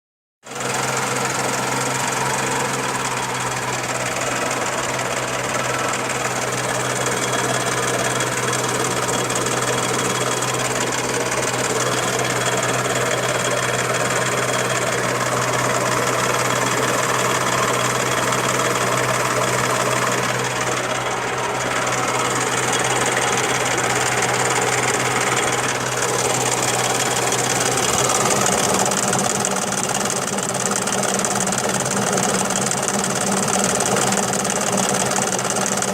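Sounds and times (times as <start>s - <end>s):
car engine running: 0.5s - 35.9s.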